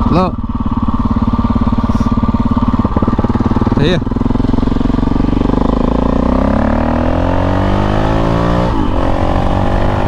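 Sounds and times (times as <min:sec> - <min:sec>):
single-cylinder engine pulling hard: 0:00.0 - 0:10.0.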